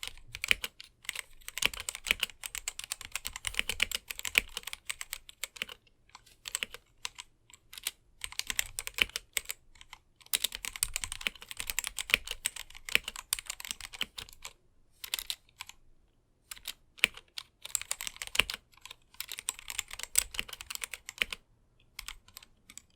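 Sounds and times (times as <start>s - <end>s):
mechanical keyboard typing: 0.0s - 15.8s, 16.5s - 22.9s.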